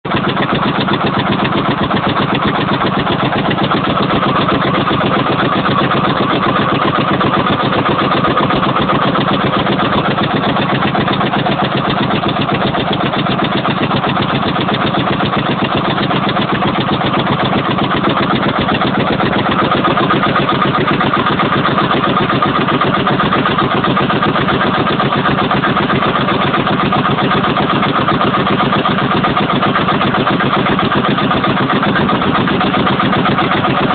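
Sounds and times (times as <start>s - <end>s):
diesel engine running steadily: 0.0s - 33.9s.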